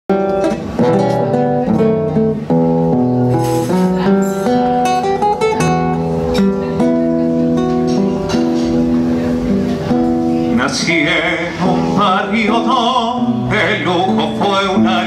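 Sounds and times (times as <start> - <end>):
classical guitar fingerstyle: 0.1 - 15.0.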